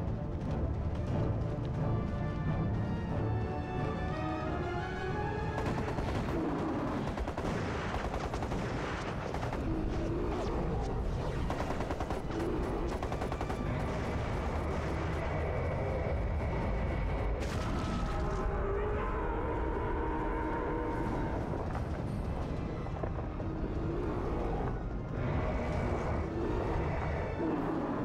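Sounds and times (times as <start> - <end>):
orchestral film score: 0.0 - 28.0.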